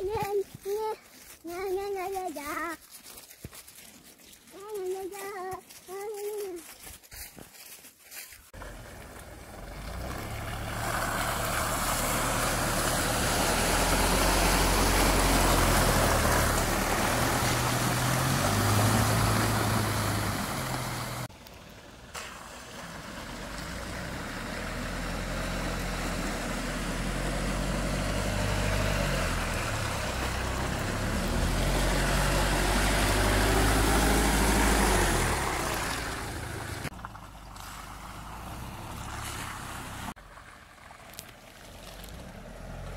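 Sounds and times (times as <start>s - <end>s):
road noise: 0.0s - 42.9s
van engine driving: 8.5s - 42.9s.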